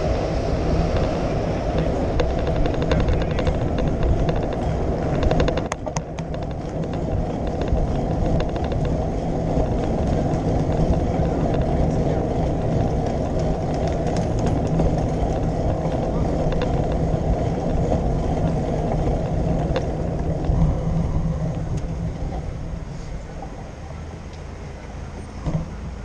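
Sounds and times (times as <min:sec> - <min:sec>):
wind rushing over microphone: 0:00.0 - 0:23.8
bicycle clicks and rattles: 0:00.1 - 0:22.9.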